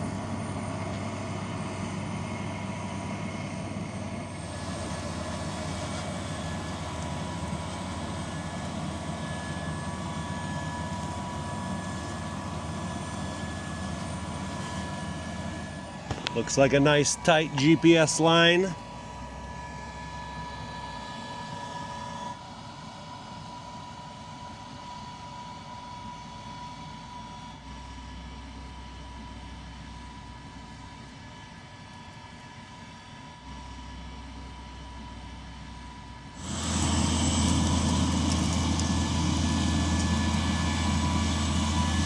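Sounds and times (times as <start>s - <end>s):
thin steady whine: 0.0s - 23.2s, 25.6s - 42.0s
tractor engine drone: 0.0s - 42.0s.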